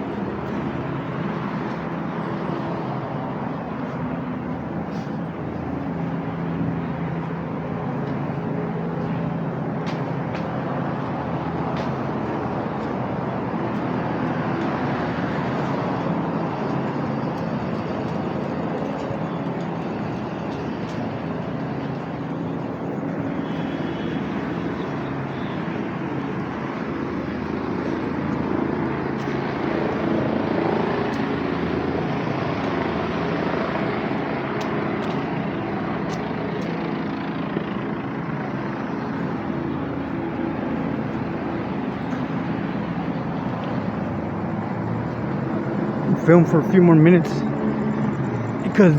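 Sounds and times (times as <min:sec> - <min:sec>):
steady engine drone: 0:00.0 - 0:48.9
street noise: 0:00.0 - 0:48.9.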